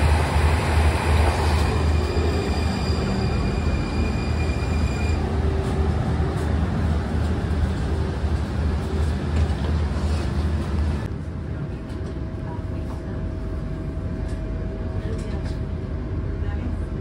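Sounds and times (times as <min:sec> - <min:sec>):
tram rumbling and rolling: 0:00.0 - 0:17.0.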